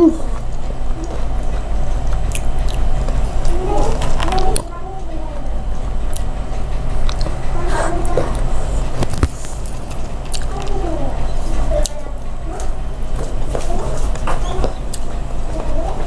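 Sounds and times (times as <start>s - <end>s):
steady low hum: 0.0s - 16.0s
wet chewing mouth sounds: 0.2s - 4.8s, 5.8s - 15.7s.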